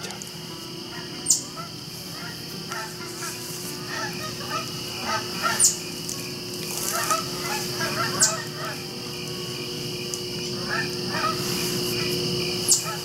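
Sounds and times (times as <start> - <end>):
geese honking: 0.8 - 9.2, 10.3 - 13.0.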